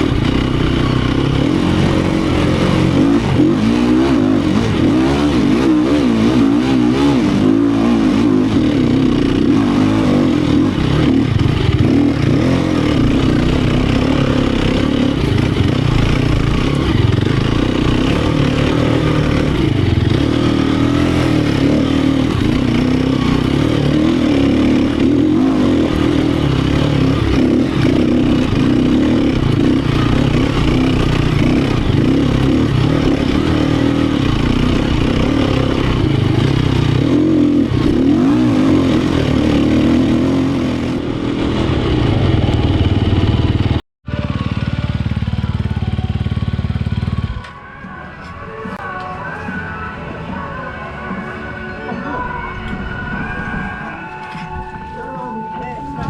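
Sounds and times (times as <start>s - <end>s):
motorcycle engine revving: 0.0s - 49.4s.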